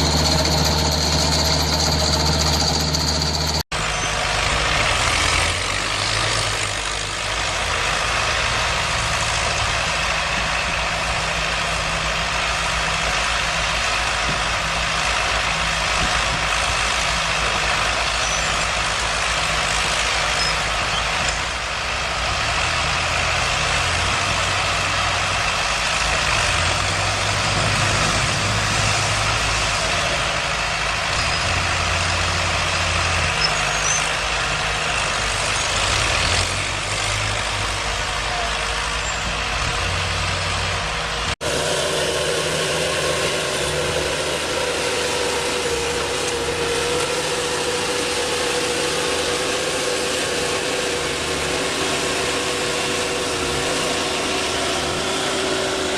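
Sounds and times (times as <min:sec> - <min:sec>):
heavy machine engine running: 0:00.0 - 0:55.9.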